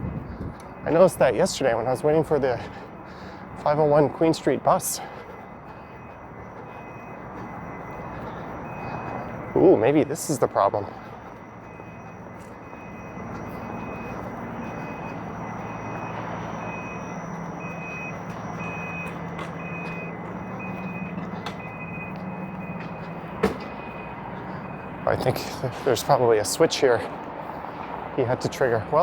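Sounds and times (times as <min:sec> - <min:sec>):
back-up alarm beeping: 0:00.0 - 0:29.0
low engine hum: 0:00.0 - 0:29.0
street traffic: 0:00.0 - 0:29.0.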